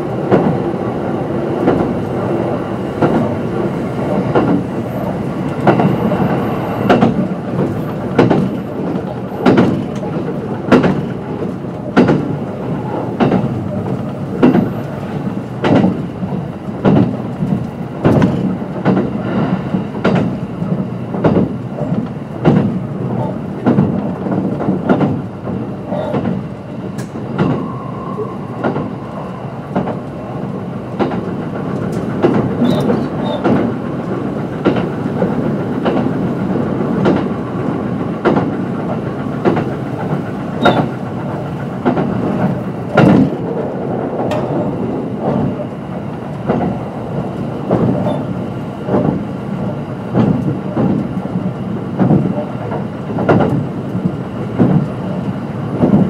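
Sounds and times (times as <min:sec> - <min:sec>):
train rolling rumble: 0:00.0 - 0:56.0
wheels clicking over rail joints: 0:04.0 - 0:19.1, 0:21.2 - 0:27.6, 0:30.9 - 0:46.9, 0:47.6 - 0:56.0.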